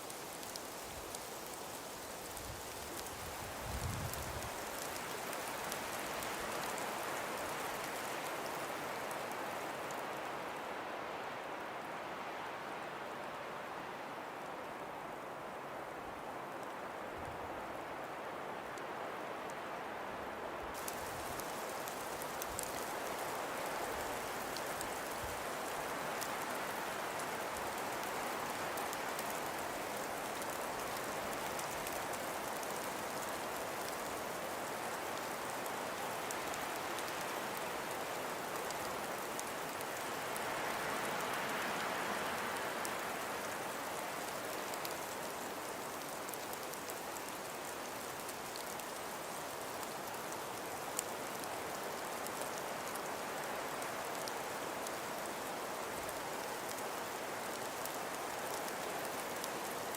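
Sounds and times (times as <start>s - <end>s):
snow pattering ticks: 0.0s - 10.6s, 20.7s - 59.9s
wind in snowstorm: 0.0s - 59.9s.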